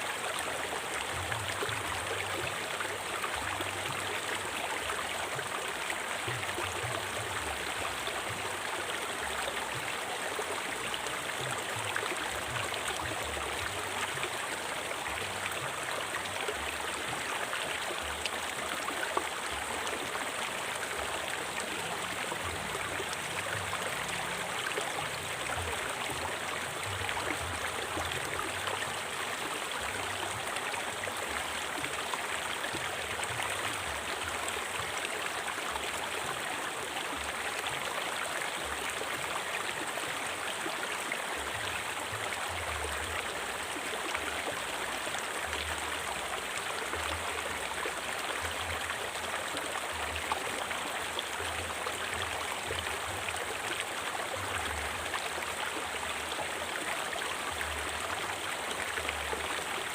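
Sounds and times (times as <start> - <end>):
river flowing over rocks: 0.0 - 59.9.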